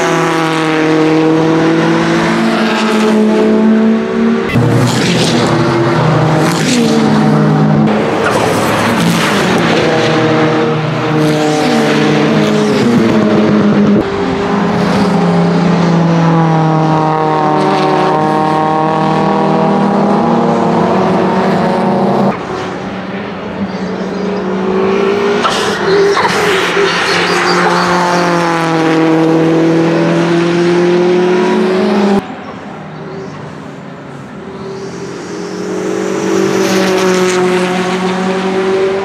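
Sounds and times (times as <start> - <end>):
race car engine accelerating hard: 0.0 - 32.4, 34.4 - 39.0.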